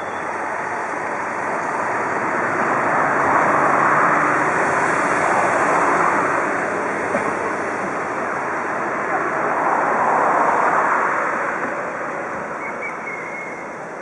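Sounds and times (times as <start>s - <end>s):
train running past: 0.0s - 14.0s.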